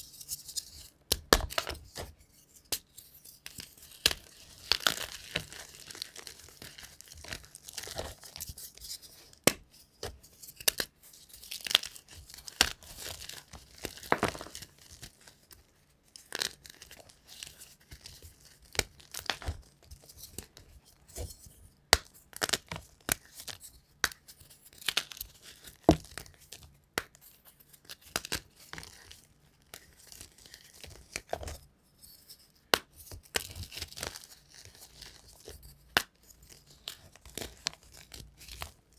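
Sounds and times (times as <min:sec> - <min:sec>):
chalk crunching and snapping: 0:00.1 - 0:15.3, 0:16.2 - 0:38.9.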